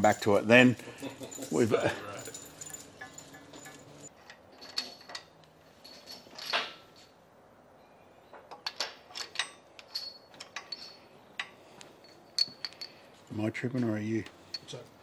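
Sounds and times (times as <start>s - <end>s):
metal bolts clicking and clinking: 0.0s - 7.2s, 8.3s - 13.1s, 13.7s - 15.0s.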